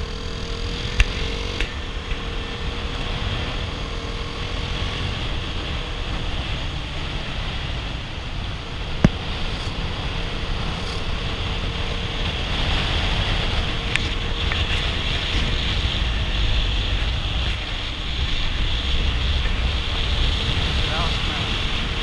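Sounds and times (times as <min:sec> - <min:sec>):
motorcycle engine and road rumble: 0:00.0 - 0:22.0
wind rushing over microphone: 0:00.0 - 0:22.0.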